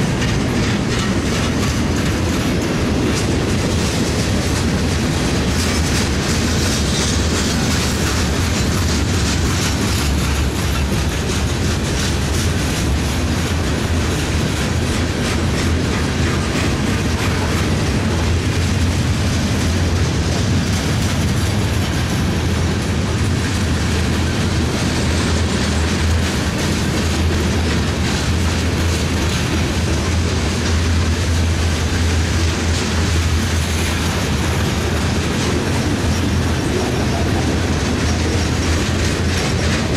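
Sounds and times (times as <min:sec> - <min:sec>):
freight train wheels clacking on rails: 0:00.0 - 0:39.9.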